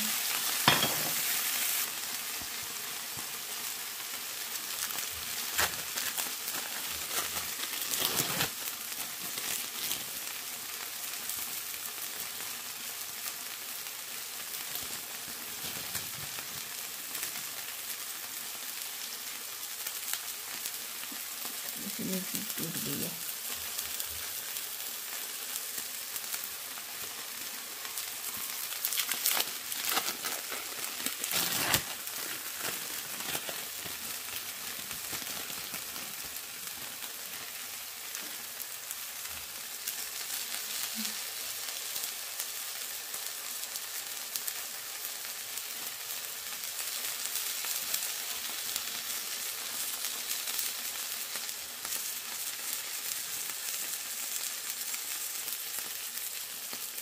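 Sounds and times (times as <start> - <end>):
oil crackles: 0.0 - 57.0
patties sizzling in oil: 0.0 - 57.0.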